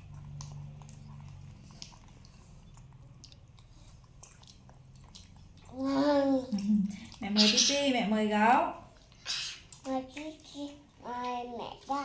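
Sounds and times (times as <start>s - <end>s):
wet chewing and smacking: 0.0s - 7.7s, 8.8s - 12.0s
faint low hum: 0.0s - 12.0s.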